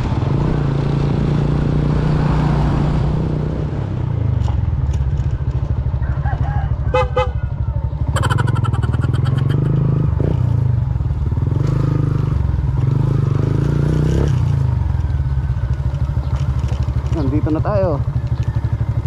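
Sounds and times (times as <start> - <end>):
motorcycle engine running: 3.1 - 19.0.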